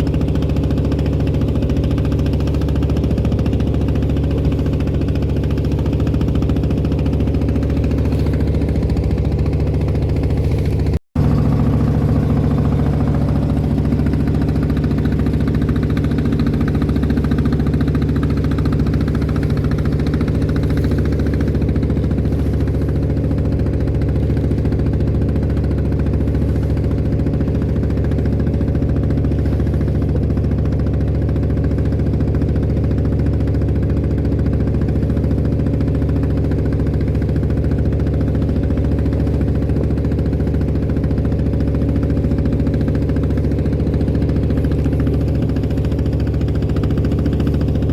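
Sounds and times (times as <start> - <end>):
boat diesel engine running: 0.0 - 47.9.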